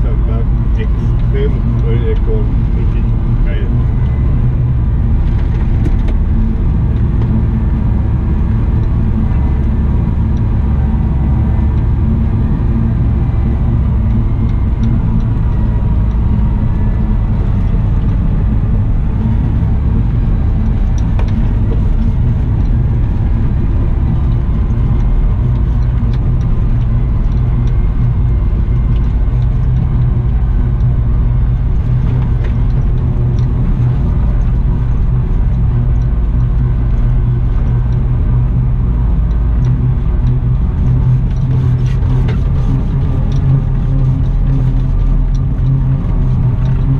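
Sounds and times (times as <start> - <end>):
diesel engine rumbling: 0.0 - 46.9.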